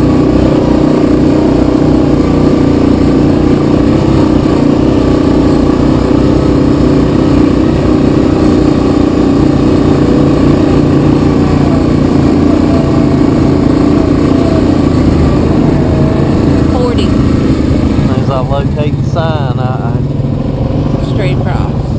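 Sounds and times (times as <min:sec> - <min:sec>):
atv engine running: 0:00.0 - 0:21.9.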